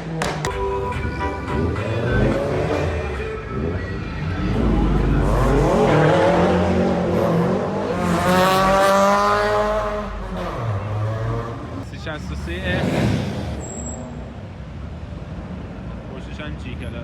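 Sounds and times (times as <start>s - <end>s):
sports car engine revving: 0.0s - 14.5s.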